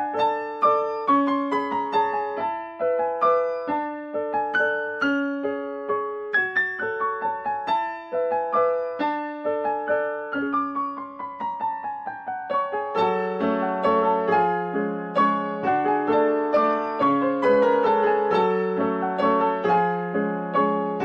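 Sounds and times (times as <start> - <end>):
piano single notes: 0.0 - 21.0.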